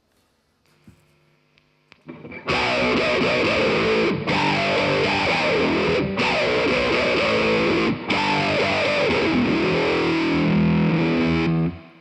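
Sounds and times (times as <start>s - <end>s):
distorted electric guitar: 2.0s - 12.0s.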